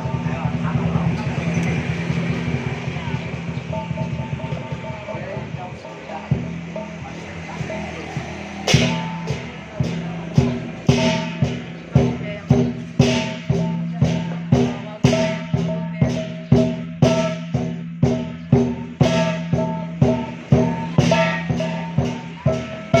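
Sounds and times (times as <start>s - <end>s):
big drum beating: 0.0s - 23.0s
cymbals clashing: 0.0s - 23.0s.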